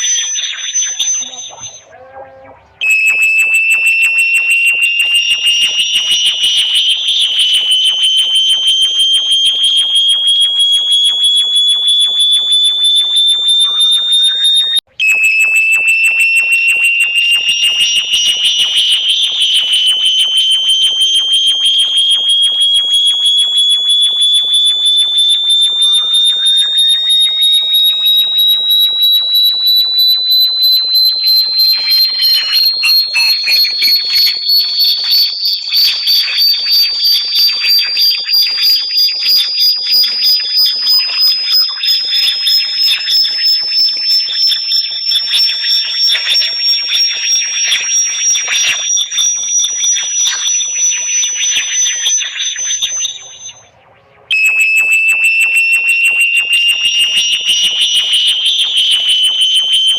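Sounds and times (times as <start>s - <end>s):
pulsing high-pitched synthetic tone: 0.0s - 59.9s.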